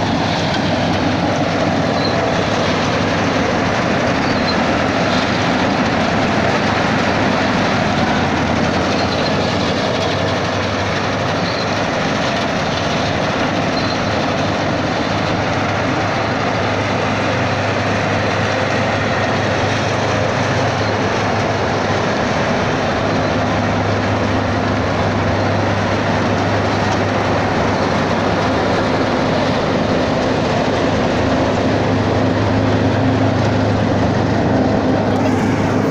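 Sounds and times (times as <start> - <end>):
combine harvester running: 0.0 - 35.9.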